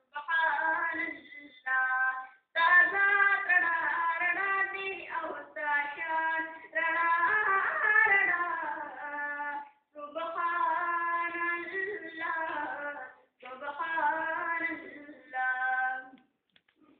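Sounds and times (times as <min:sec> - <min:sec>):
boy singing devotional song: 0:00.0 - 0:16.3.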